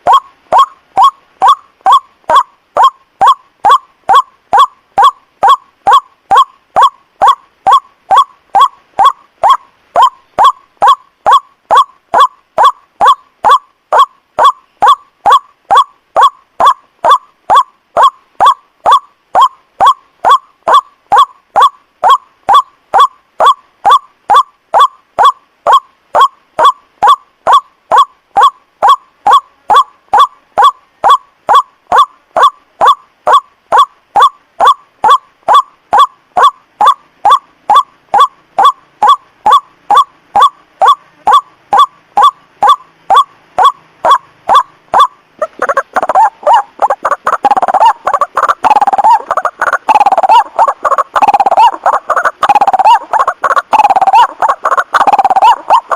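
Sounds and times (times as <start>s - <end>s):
bird call repeated: 0.0s - 55.9s.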